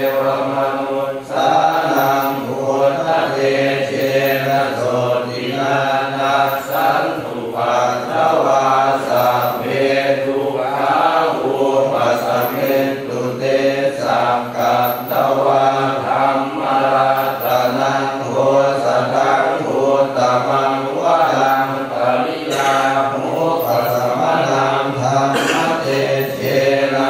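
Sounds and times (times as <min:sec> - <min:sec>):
monks chanting: 0:00.0 - 0:27.0.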